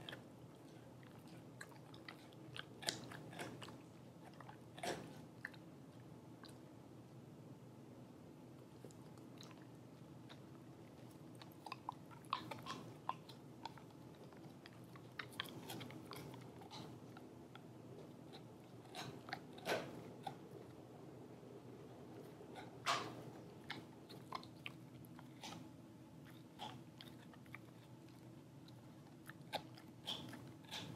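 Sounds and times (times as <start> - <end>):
dog chewing rawhide: 0.0 - 5.6, 8.8 - 20.9, 22.2 - 30.9.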